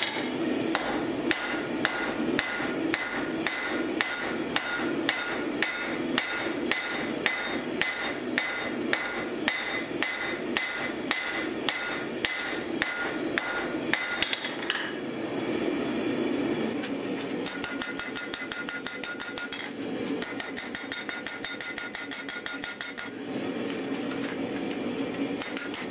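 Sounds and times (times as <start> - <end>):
hammer striking steel on anvil: 0.0 - 15.0, 17.4 - 23.2, 25.4 - 25.9.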